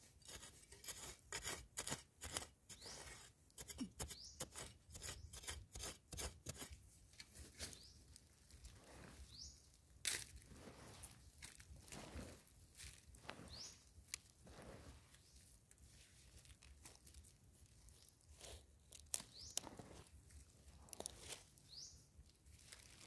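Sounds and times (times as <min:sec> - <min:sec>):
metal spade digging dry soil: 0:00.0 - 0:21.8.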